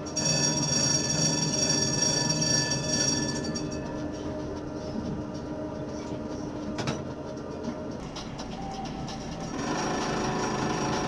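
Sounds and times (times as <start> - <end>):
tram rumble: 0.0 - 11.0.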